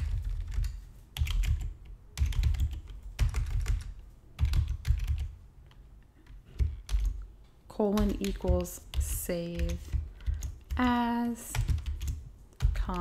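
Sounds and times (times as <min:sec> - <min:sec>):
computer keyboard typing: 0:00.0 - 0:13.0.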